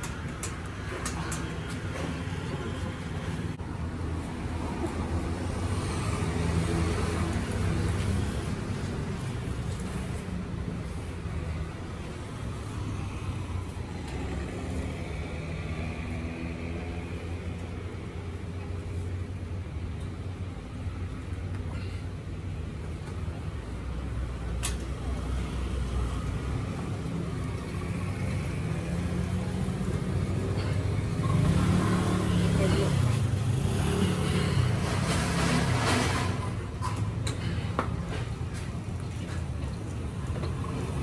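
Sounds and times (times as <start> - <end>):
street traffic engine hum: 0.0 - 41.0.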